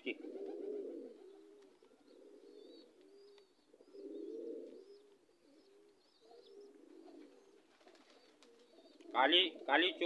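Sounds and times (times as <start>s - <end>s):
pigeons cooing: 0.0s - 10.0s
small birds chirping: 0.3s - 10.0s.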